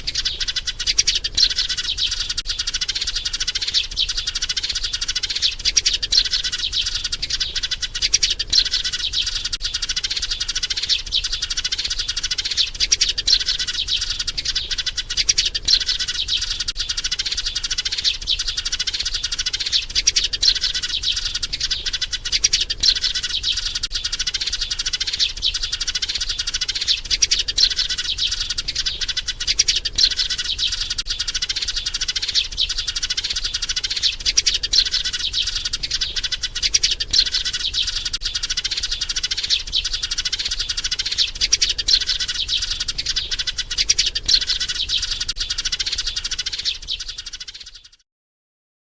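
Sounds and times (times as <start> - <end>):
sparrow chirping: 0.0 - 48.0.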